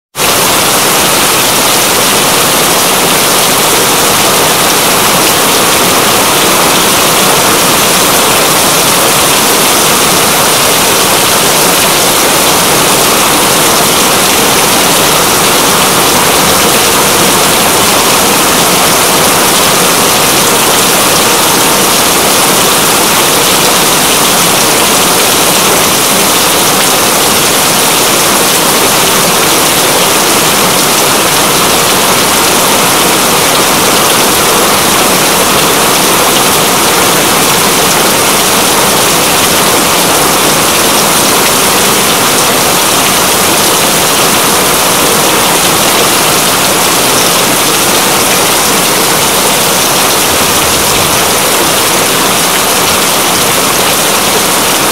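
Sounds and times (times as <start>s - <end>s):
steady rain: 0.2s - 54.9s.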